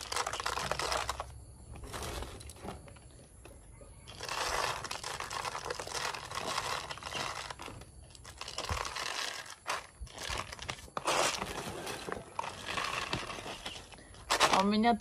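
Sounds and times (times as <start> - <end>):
plastic bottle crinkling: 0.0 - 3.1, 4.1 - 14.8.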